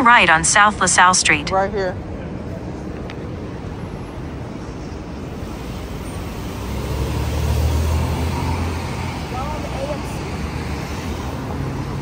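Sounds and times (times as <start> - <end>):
passing vehicles hum: 1.1 - 12.0
heavy vehicle engine rumble: 1.5 - 12.0.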